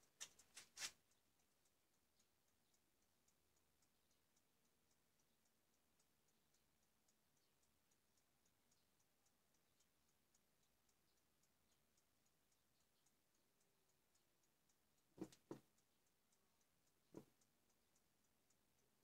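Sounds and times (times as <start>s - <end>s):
high-pitched ticking: 0.0s - 19.0s.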